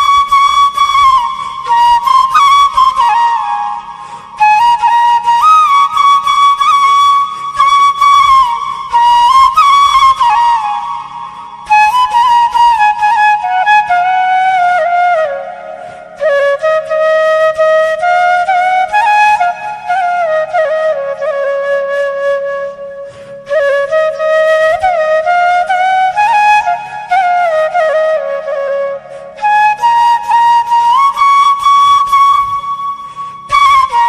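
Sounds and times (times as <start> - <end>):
bamboo flute melody: 0.0 - 34.0
faint steady drone: 0.0 - 34.0.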